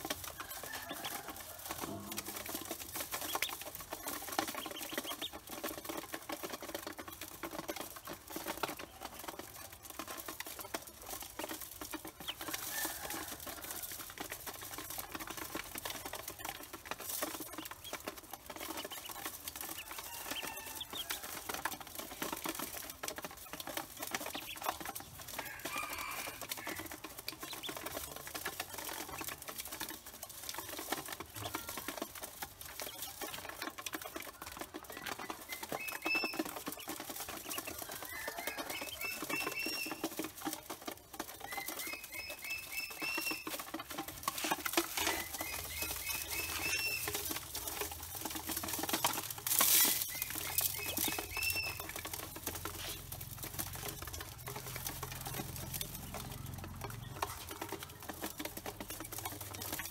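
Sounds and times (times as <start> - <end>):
bills tapping on metal bowl: 0.0 - 59.9
ducklings peeping: 0.0 - 59.9.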